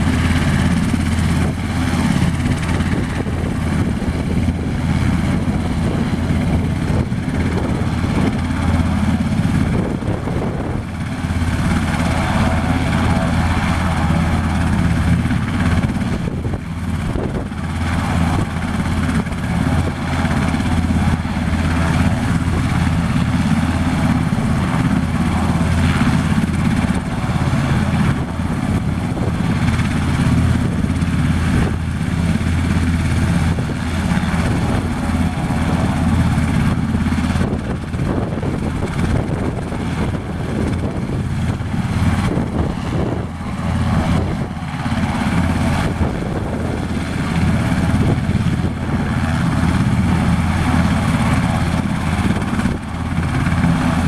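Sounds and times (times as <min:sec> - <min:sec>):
helicopter engines and rotors: 0:00.0 - 0:54.0.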